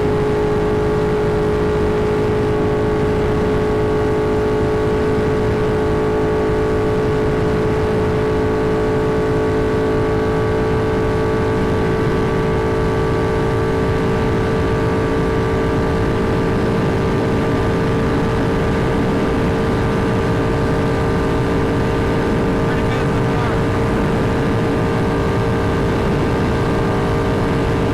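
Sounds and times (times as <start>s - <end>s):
motorcycle engine at high revs: 0.0s - 27.9s.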